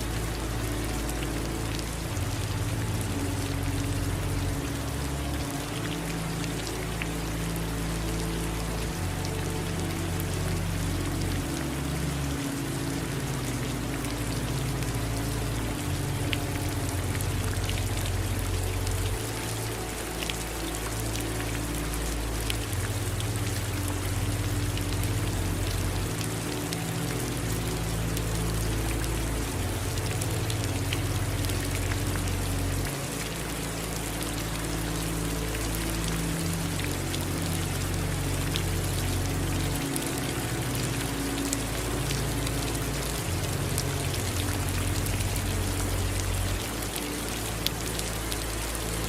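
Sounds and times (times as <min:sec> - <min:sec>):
rain hissing: 0:00.0 - 0:49.0
raindrops ticking: 0:00.1 - 0:49.0.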